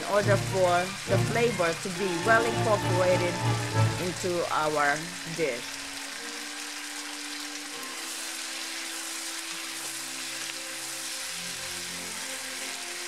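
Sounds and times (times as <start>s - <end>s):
soft background music: 0.0s - 13.0s
stir-fry sizzling in a pan: 0.0s - 13.0s.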